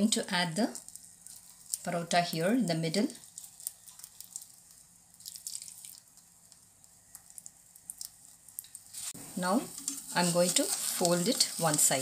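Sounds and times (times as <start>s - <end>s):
egg sizzling in a pan: 0.0s - 12.0s.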